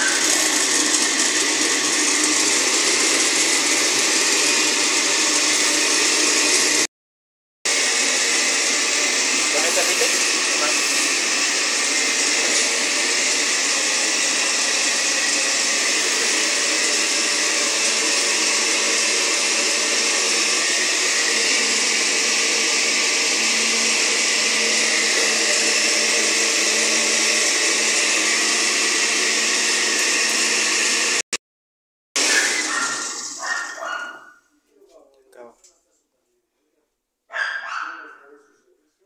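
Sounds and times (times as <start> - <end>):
electric blender running: 0.0 - 6.9, 7.7 - 31.4, 32.2 - 34.3.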